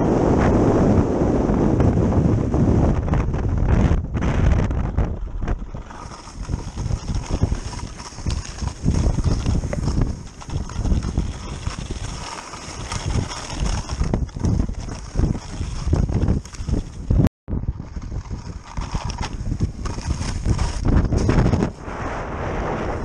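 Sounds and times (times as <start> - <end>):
skis scraping over icy snow: 4.4 - 23.0.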